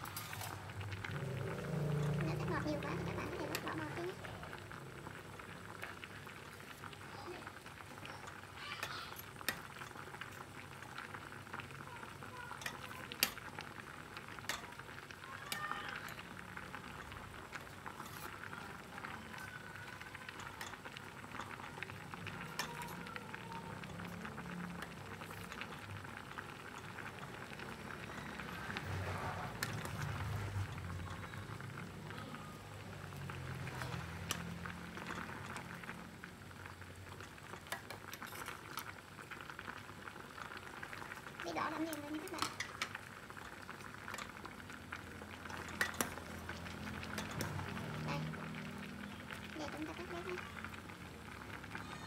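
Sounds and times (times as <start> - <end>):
water boiling in pot: 0.0 - 52.0.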